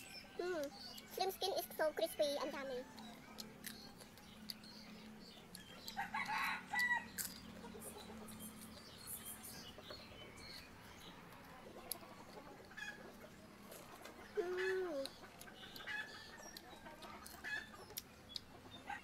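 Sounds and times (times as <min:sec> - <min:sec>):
crunching and chewing: 0:02.4 - 0:19.0.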